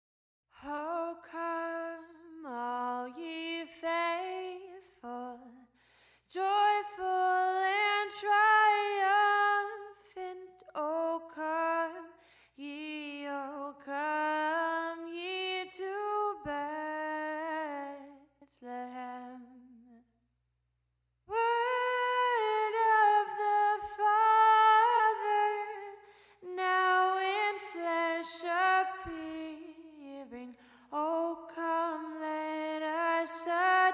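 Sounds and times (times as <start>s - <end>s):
woman singing unaccompanied: 0.6s - 5.6s, 6.3s - 20.0s, 21.3s - 33.9s.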